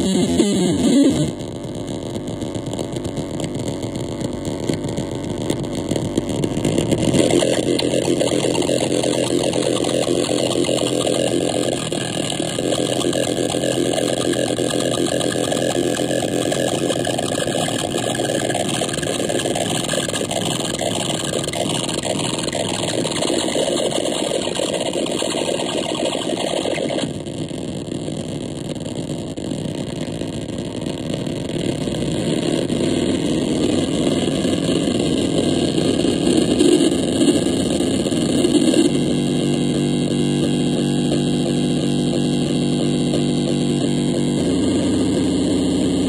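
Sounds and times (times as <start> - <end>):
synthesizer buzzing drone: 0.0 - 46.0.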